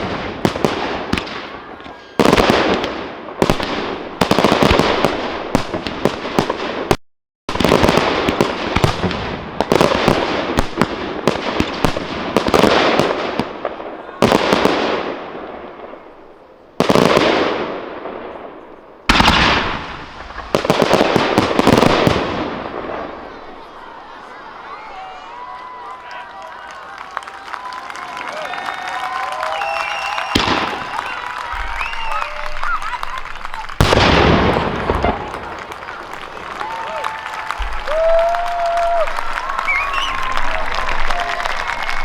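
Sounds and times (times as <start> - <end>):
fireworks bangs: 0.0 - 42.0.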